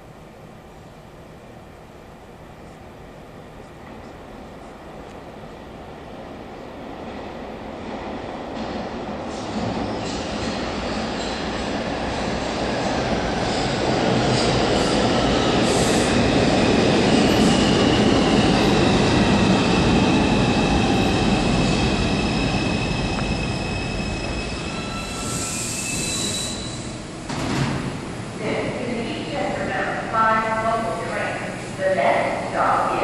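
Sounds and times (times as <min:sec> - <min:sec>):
subway train braking: 0:00.0 - 0:33.0.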